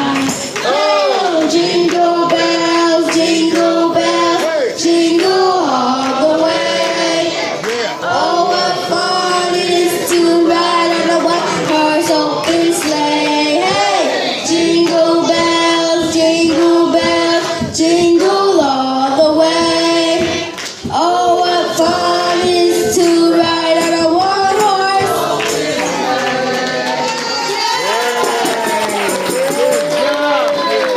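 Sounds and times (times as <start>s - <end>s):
children singing: 0.0s - 30.8s.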